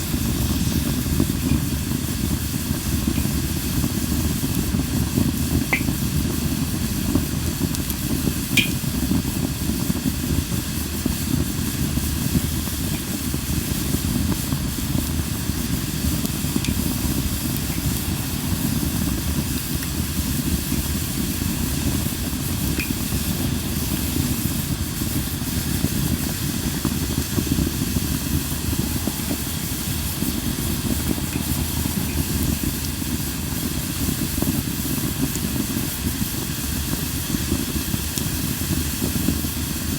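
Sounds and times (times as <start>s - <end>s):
fire crackles: 0.0s - 39.9s
firewood burning hiss: 0.0s - 39.9s.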